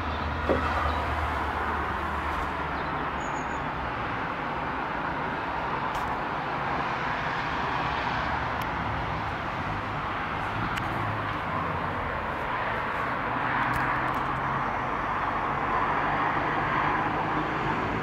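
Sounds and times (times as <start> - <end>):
urban background noise: 0.0 - 18.0.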